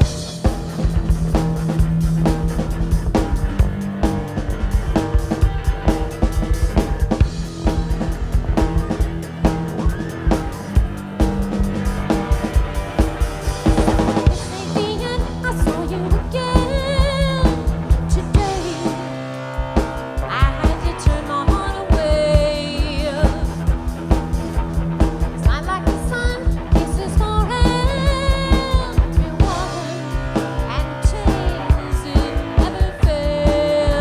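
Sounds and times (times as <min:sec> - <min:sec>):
drum kit beat: 0:00.0 - 0:34.0.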